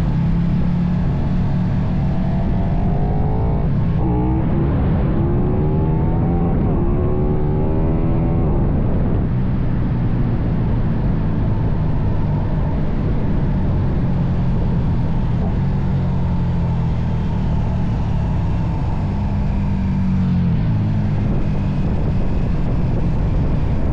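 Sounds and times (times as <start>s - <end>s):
motorcycle engine running: 0.0s - 5.6s, 8.7s - 23.9s.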